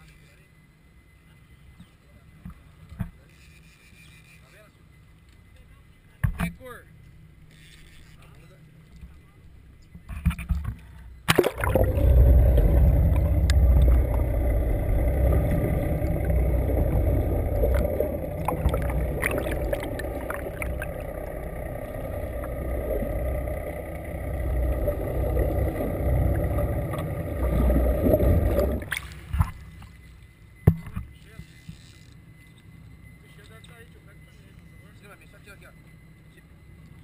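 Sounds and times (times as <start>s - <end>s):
underwater rumble of outboard motors: 6.9s - 37.0s.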